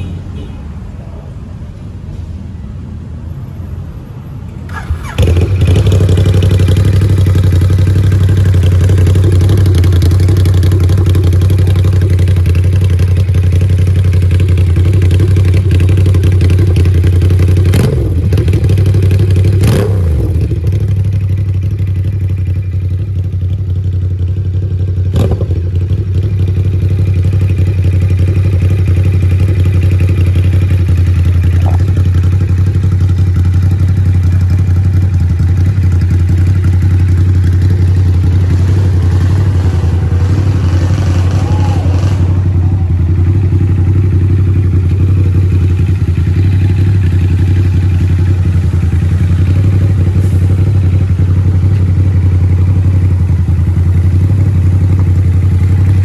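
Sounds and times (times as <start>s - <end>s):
motorcycle engine idling: 4.5s - 56.0s.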